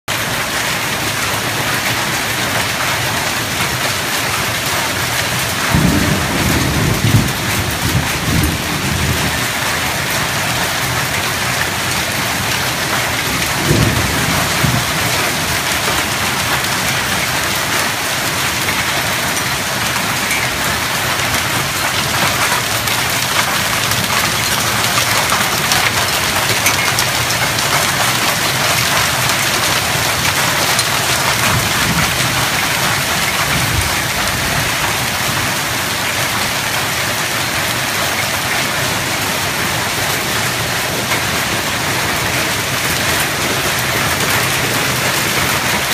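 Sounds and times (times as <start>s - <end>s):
heavy rain and hail splashing: 0.1s - 45.9s
low thunder rumbles: 4.6s - 45.9s.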